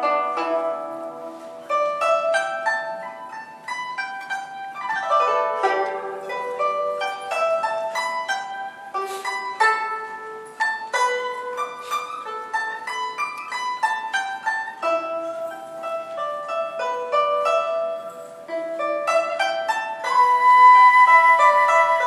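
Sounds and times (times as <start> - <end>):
guzheng melody: 0.0 - 22.0.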